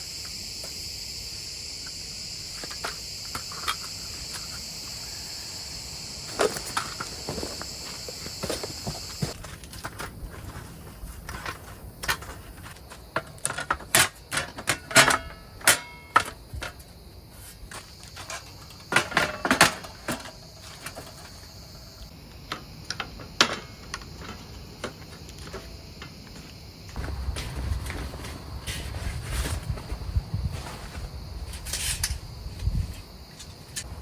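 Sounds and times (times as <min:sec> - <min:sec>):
insect drone: 0:00.0 - 0:34.0.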